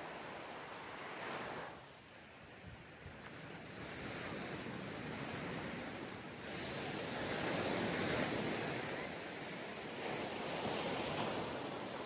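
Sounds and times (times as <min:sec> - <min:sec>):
sea waves breaking on beach: 0:00.0 - 0:02.5, 0:03.4 - 0:12.0.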